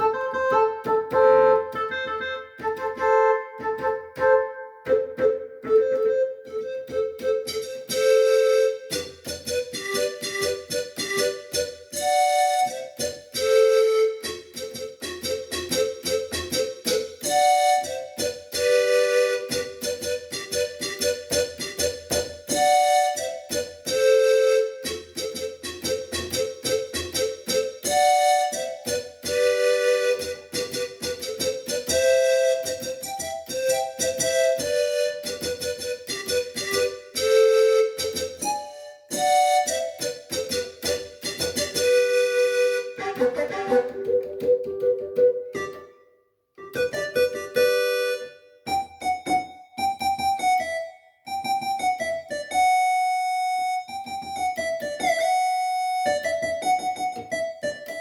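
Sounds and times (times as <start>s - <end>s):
electronic keyboard melody: 0.0s - 58.0s.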